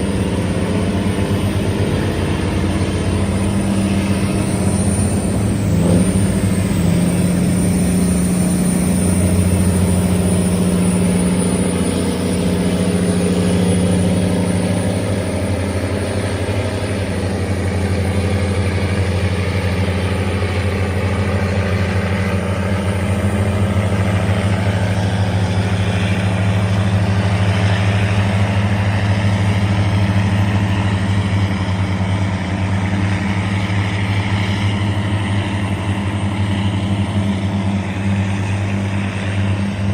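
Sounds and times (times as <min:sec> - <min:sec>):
tugboat engine droning: 0:00.0 - 0:39.9.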